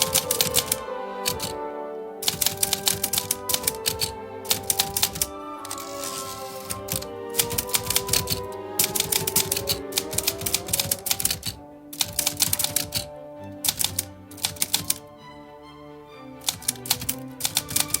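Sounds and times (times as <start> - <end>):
typewriter keys clicking: 0.0 - 1.6, 2.2 - 15.0, 16.5 - 18.0
background music: 0.0 - 18.0.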